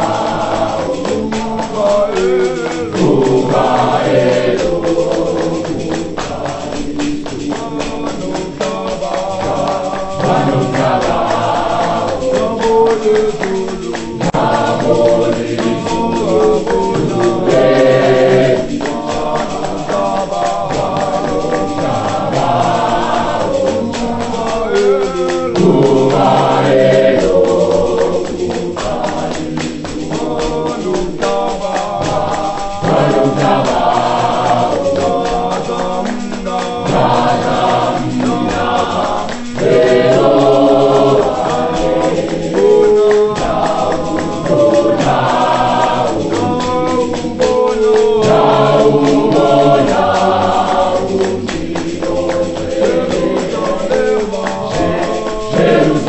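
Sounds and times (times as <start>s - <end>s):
gospel choir singing in harmony: 0.0s - 56.0s
steady beat: 0.0s - 56.0s.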